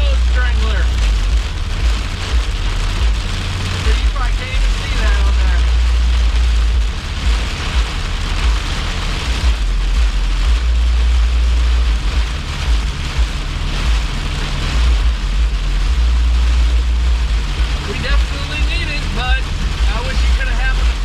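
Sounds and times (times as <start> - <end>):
low rumble with hiss: 0.0 - 21.0.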